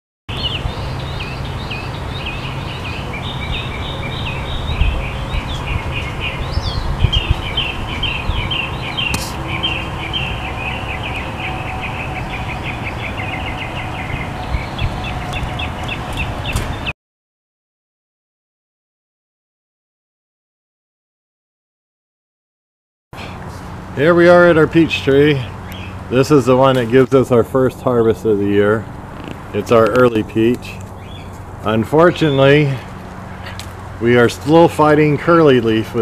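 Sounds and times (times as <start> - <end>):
birds chirping: 0.3 - 17.0, 23.2 - 36.0.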